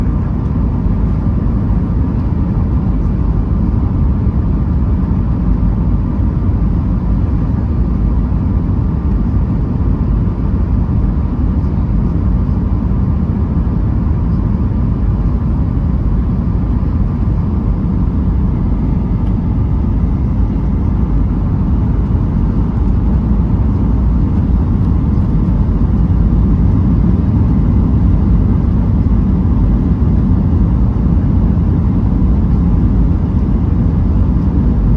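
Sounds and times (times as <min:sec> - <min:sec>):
jet engines low rumble: 0:00.0 - 0:34.9
rushing airflow in cabin: 0:00.0 - 0:34.9.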